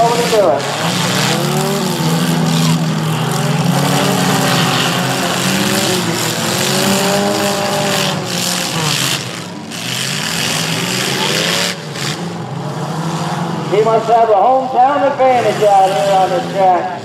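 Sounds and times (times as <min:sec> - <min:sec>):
race car engines revving: 0:00.0 - 0:17.0.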